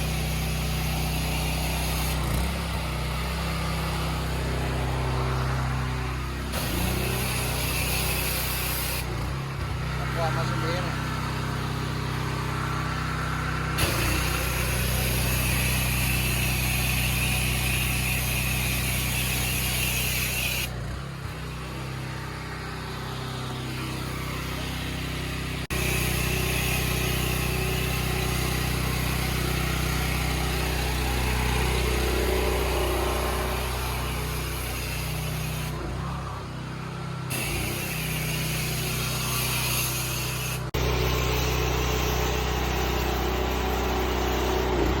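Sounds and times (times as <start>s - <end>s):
small engine running: 0.0s - 45.0s.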